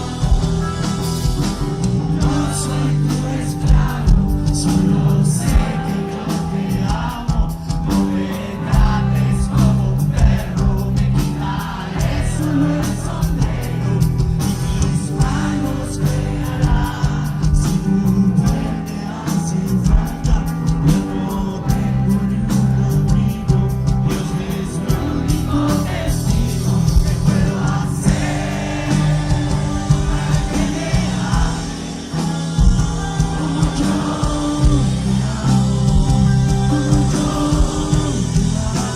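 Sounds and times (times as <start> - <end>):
drums keeping steady beat: 0.0 - 38.9
lead singer singing: 0.0 - 38.9
rock band playing live: 0.0 - 38.9.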